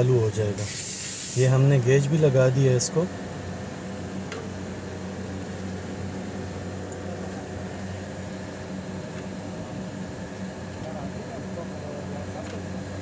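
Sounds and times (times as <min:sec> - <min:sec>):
machinery hum with low drone: 0:00.0 - 0:13.0.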